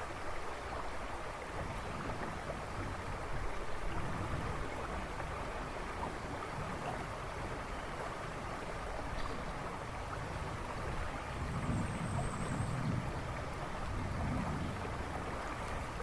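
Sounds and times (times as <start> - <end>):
river rushing and babbling: 0.0 - 16.0.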